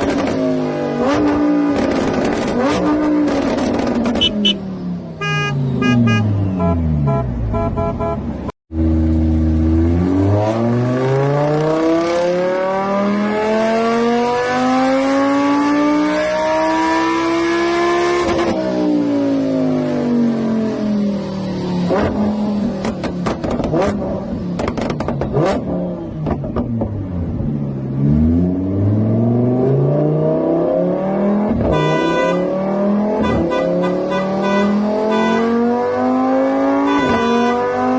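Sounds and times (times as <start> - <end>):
car engine revving: 0.0 - 4.6, 5.2 - 37.9.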